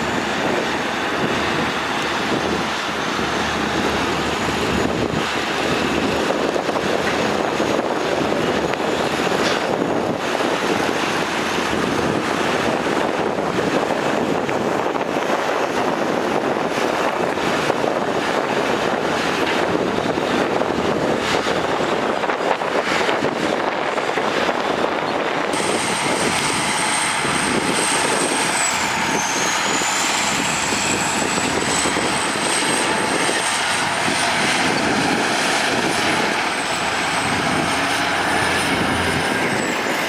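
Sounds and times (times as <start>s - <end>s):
heavy diesel machinery running: 0.0s - 40.0s.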